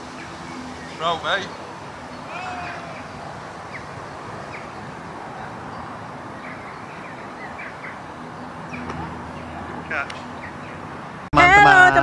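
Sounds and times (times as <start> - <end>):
high bird chirps: 0.0 - 11.0.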